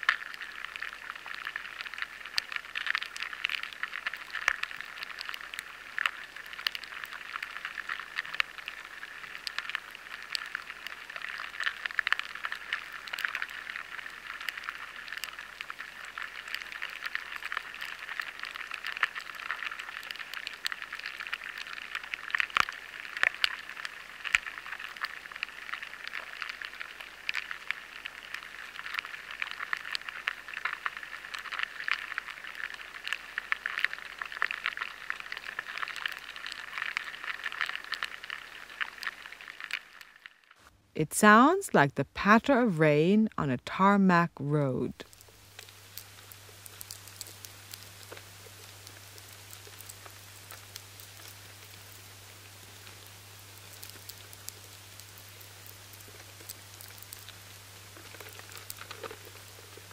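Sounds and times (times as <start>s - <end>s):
insects crackling inside grain: 0.0s - 40.7s, 45.0s - 59.9s.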